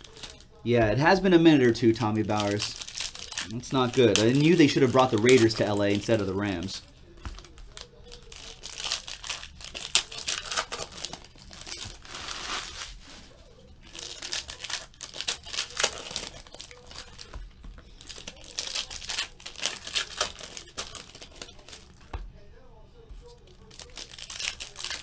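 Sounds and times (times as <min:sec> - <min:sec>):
foil wrappers tearing and crinkling: 0:00.0 - 0:22.0, 0:23.6 - 0:25.0.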